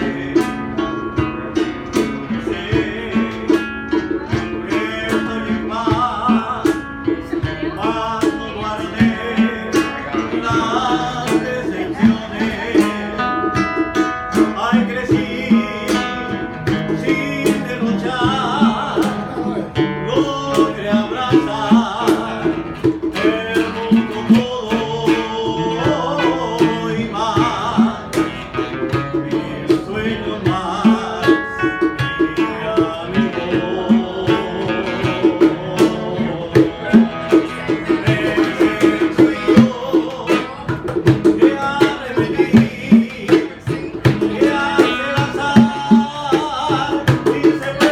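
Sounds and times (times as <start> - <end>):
acoustic guitars playing: 0.0 - 47.9
cajon beat: 0.0 - 47.9
man singing: 0.0 - 47.9.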